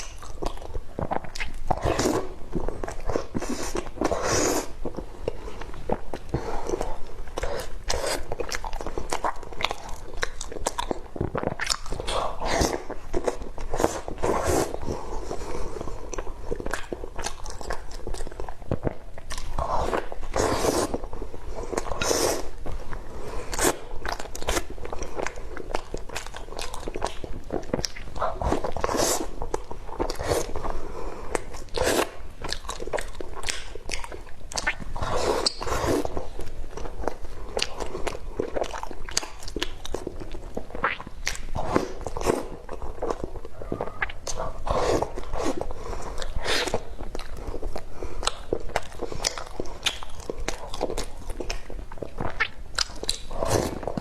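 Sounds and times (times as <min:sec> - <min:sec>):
wet chewing and lip smacking: 0:00.0 - 0:54.0.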